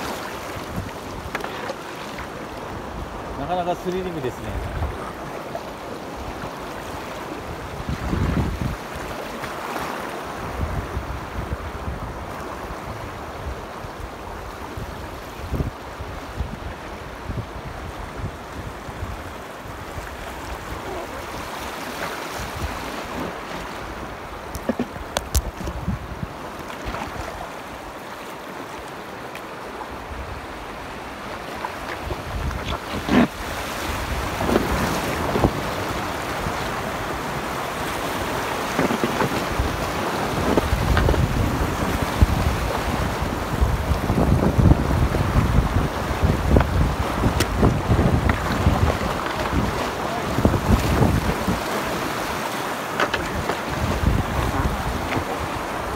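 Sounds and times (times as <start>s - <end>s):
wind rumbling on microphone: 0.0s - 9.4s, 10.3s - 28.0s, 29.9s - 55.9s
river water rushing over rocks: 0.0s - 55.9s.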